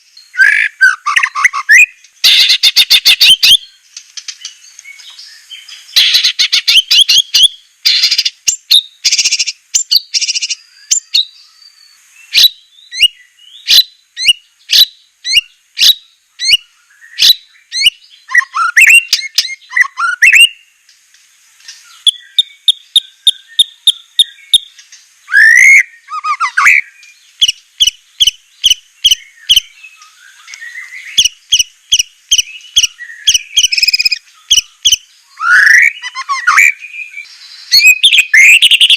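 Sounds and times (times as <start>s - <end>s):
songbird singing whistles and trills: 0.0s - 20.8s, 21.6s - 38.9s.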